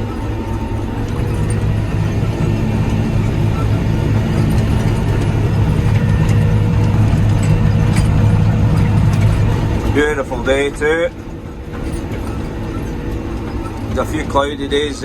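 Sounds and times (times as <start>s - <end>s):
faint steady whine: 0.0s - 15.0s
mower engine drone: 0.0s - 15.0s.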